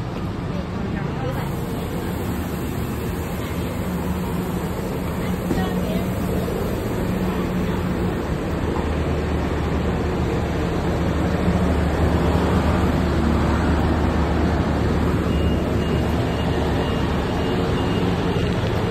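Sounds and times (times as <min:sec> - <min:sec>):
bus diesel engine idling: 0:00.0 - 0:18.9
street traffic: 0:00.0 - 0:18.9.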